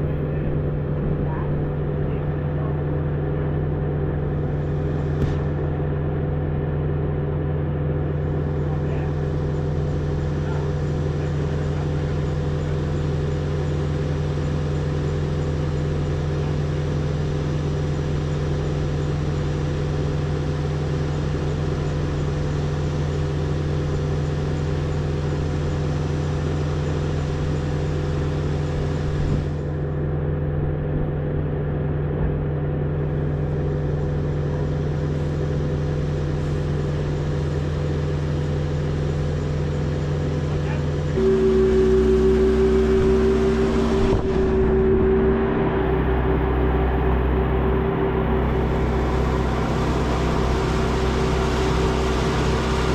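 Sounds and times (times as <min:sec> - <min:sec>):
engine droning steadily: 0:00.0 - 0:52.9.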